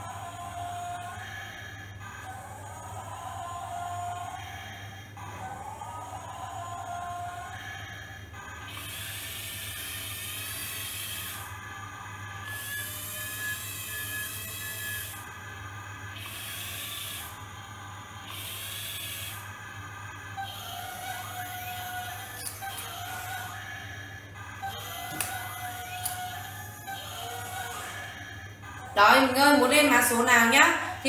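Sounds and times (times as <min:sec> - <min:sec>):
toy excavator motors whirring: 0:00.0 - 0:30.6
steady low hum: 0:00.0 - 0:31.0.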